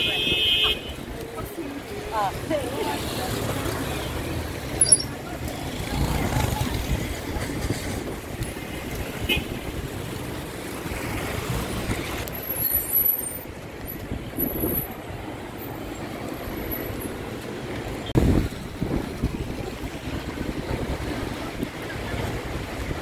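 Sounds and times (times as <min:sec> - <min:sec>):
vehicles passing on road: 0:00.0 - 0:23.0.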